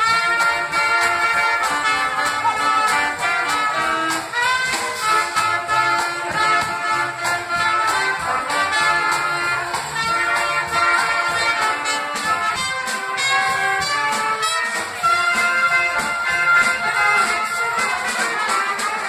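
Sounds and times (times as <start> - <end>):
double bass: 0.0 - 18.8
drum kit: 0.0 - 19.0
trumpets: 0.0 - 19.0.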